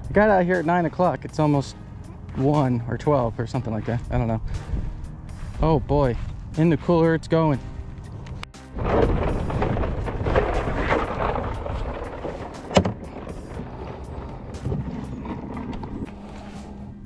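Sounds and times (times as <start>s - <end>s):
microphone wind and handling rumble: 0.0s - 17.0s.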